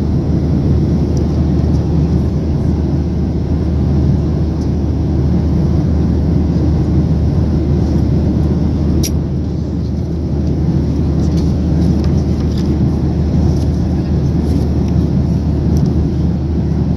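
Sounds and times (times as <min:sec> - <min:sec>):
jet engine cabin rumble: 0:00.0 - 0:16.9.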